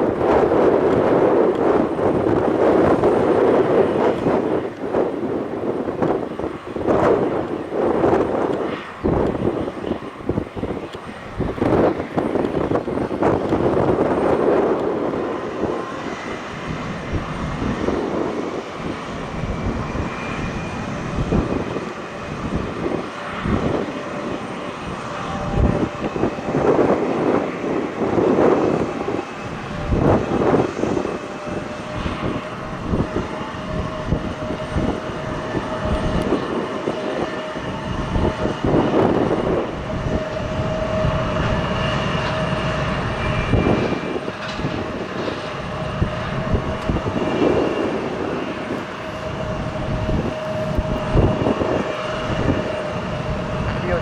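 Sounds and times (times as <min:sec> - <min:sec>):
jet engines whining: 0:00.0 - 0:54.0
wind buffeting microphone: 0:00.0 - 0:54.0.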